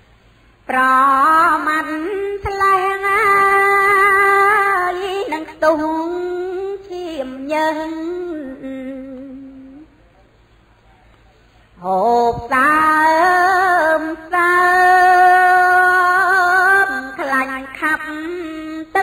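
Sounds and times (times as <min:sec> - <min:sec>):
woman chanting: 0:00.7 - 0:10.0, 0:11.8 - 0:19.0.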